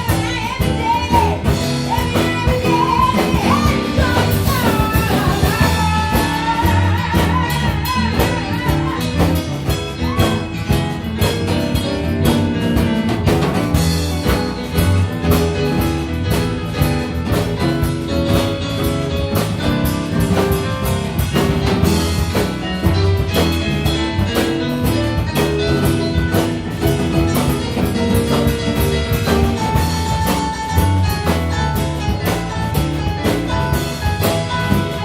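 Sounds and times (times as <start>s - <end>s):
drum kit steady beat: 0.0s - 35.0s
melodic instruments playing: 0.0s - 35.0s.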